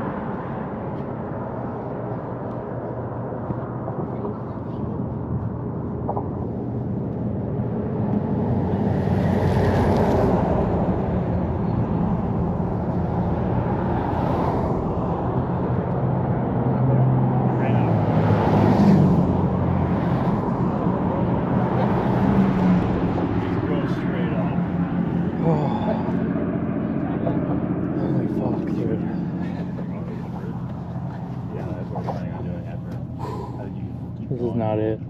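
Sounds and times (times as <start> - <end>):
passing road traffic rumble: 0.0 - 35.0.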